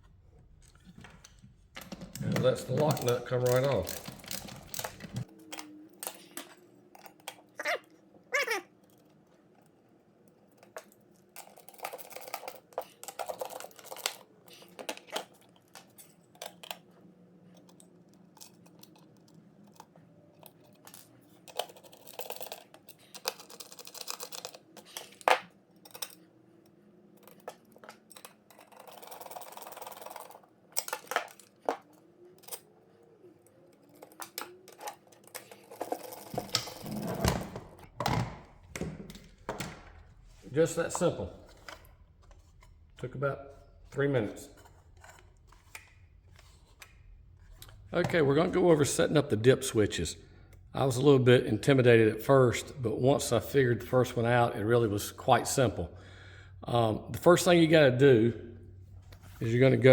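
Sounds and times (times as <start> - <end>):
parts clicking and scraping: 0.5 - 8.1, 8.7 - 49.6.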